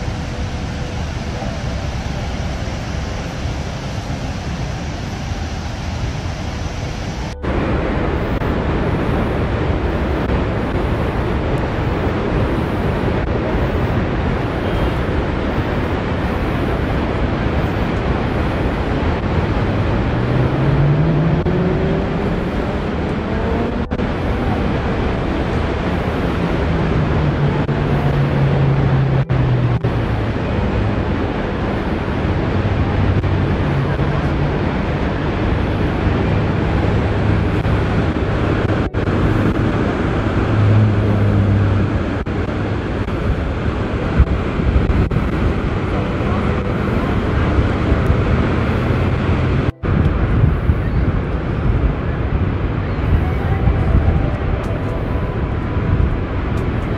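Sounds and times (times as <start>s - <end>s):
low engine hum: 0.0s - 56.9s
river rapids roaring: 0.0s - 56.9s
wind buffeting microphone: 0.0s - 56.9s.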